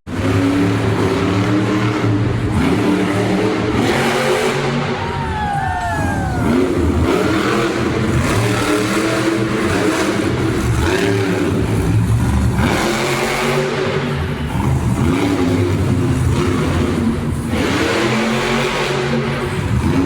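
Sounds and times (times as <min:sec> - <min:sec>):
monster truck engines revving: 0:00.1 - 0:20.0.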